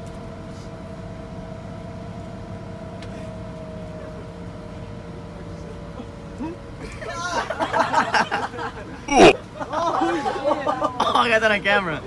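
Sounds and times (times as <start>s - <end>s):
bus engine rumble with whine: 0.0s - 12.0s.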